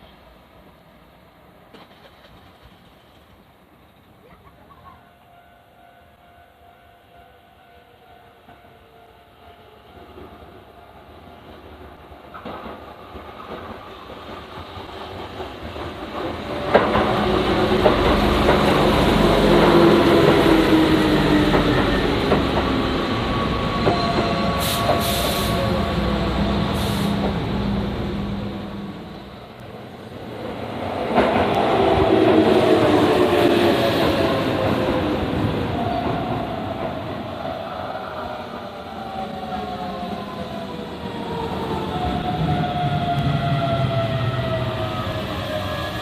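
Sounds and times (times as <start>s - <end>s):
electric train passing: 5.2s - 46.0s.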